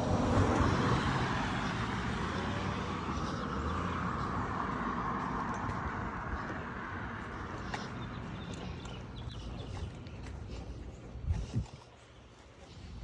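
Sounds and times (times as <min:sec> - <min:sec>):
tyre noise on road: 0:00.0 - 0:13.0
vehicle engine rumble: 0:00.0 - 0:13.0.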